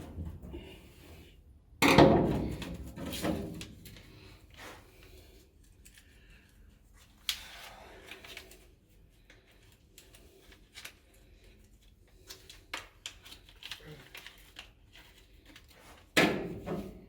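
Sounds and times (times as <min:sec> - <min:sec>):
rustling handling noises: 0:02.4 - 0:17.0.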